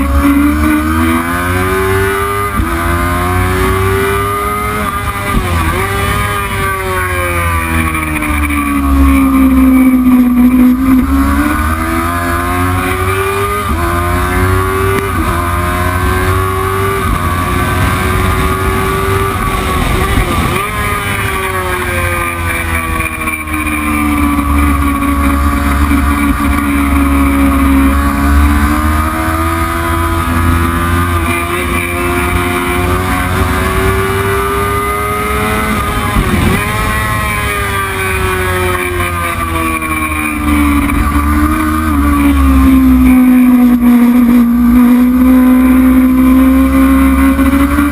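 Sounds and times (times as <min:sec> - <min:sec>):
motorcycle gear changes: 0:00.0 - 0:47.9
racing motorcycle engine: 0:00.0 - 0:47.9.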